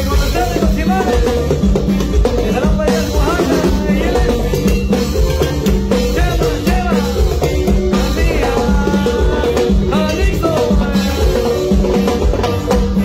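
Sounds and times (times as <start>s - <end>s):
drum kit beat with cymbals: 0.0s - 13.0s
live band dance music: 0.0s - 13.0s.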